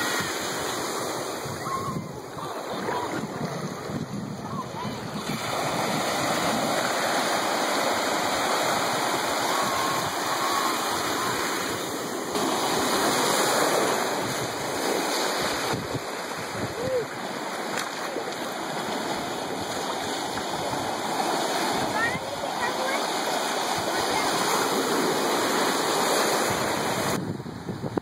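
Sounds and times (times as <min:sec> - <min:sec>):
small waves washing over sand: 0:00.0 - 0:28.0.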